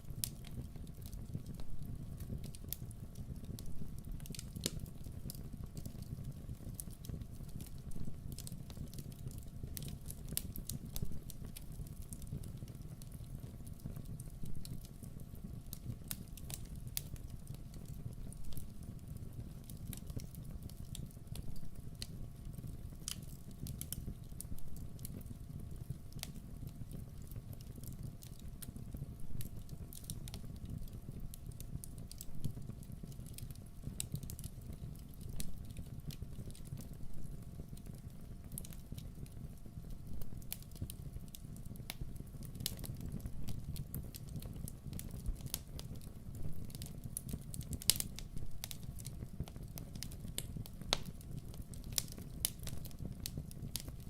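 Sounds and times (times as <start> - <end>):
low rumble of fire: 0.0 - 54.0
wood crackling and popping: 0.0 - 54.0.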